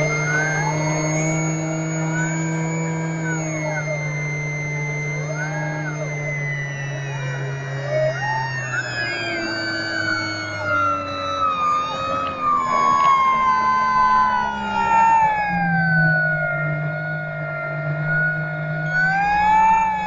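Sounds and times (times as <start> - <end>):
model plane propeller whining: 0.0 - 20.0.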